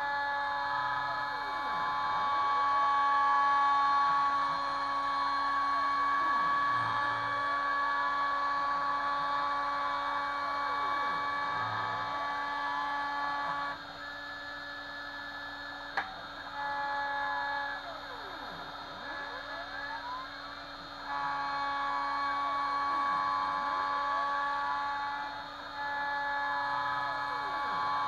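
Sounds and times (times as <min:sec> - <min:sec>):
router spindle whining: 0:00.0 - 0:28.0
stepper motors: 0:00.0 - 0:28.0.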